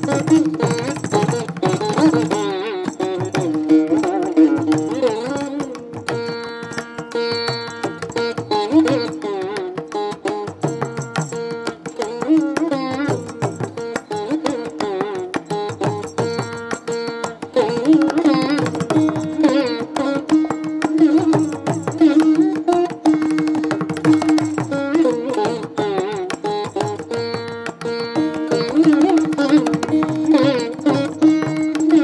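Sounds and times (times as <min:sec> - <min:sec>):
indian classical music: 0:00.0 - 0:32.0.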